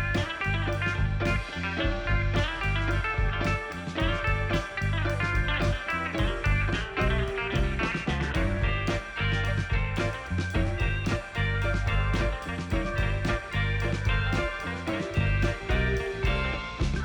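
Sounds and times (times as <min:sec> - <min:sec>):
guitar music with bass: 0:00.0 - 0:17.0.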